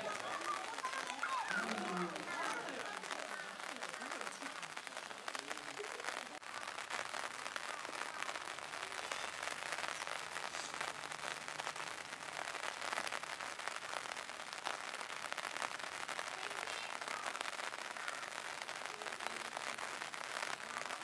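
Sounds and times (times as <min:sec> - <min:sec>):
rain pattering on hard surfaces: 0:00.0 - 0:21.0.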